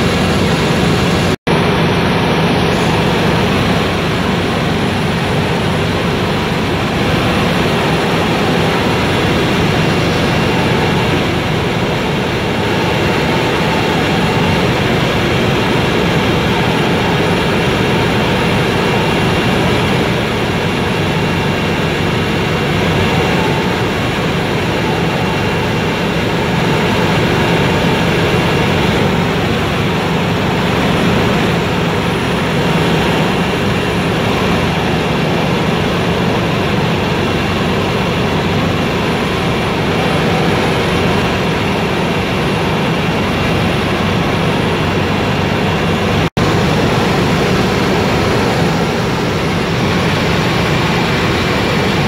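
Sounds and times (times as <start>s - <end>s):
faint high whines: 0.0s - 52.0s
helicopter engine and rotor noise: 0.0s - 52.0s.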